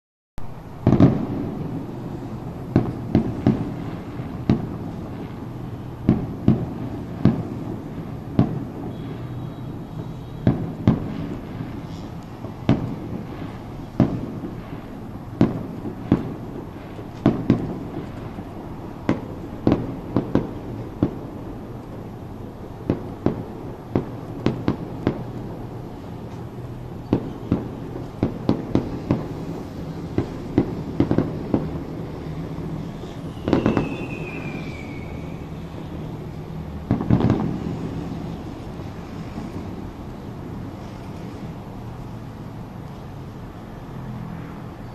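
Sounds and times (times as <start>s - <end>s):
fireworks bangs: 0.4s - 43.1s.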